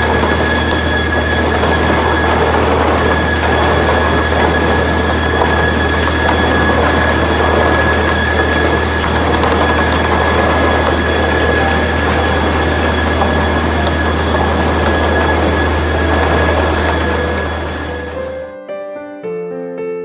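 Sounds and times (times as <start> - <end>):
planer machine running: 0.0 - 18.5.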